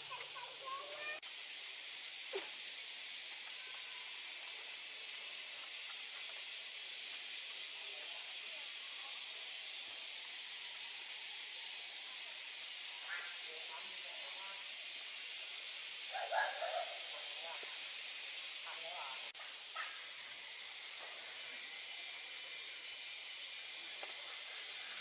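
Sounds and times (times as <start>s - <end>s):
high-pitched outdoor hiss: 0.0s - 25.0s.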